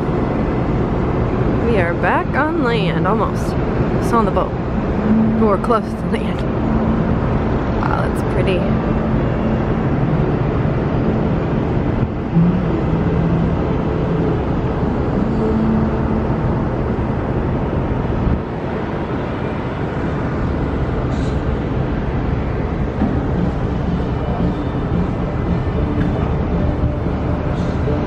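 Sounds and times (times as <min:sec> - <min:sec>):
ship low rumble: 0:00.0 - 0:28.0.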